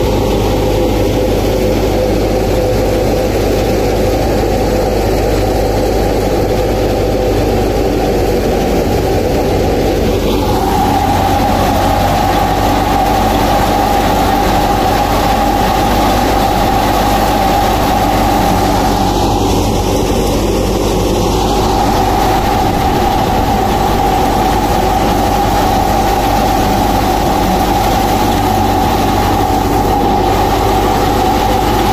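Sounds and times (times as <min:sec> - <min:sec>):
low engine drone: 0:00.0 - 0:31.9
threshing machine whining: 0:00.0 - 0:31.9.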